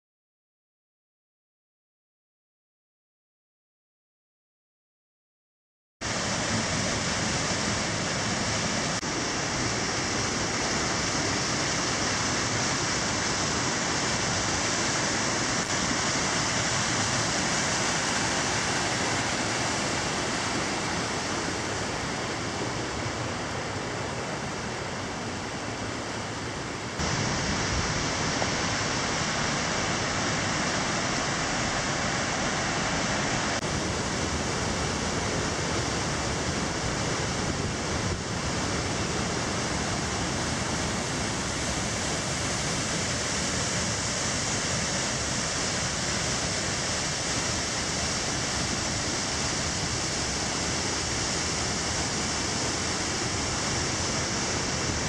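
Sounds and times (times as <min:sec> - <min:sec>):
water rushing over rock: 0:06.1 - 0:24.7, 0:27.0 - 0:55.0.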